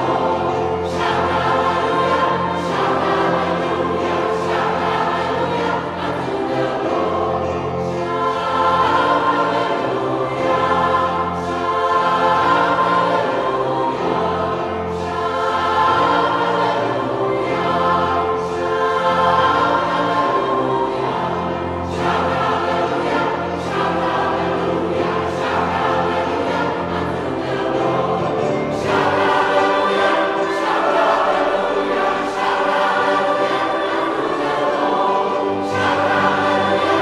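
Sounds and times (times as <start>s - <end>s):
gospel choir singing: 0.0s - 37.0s.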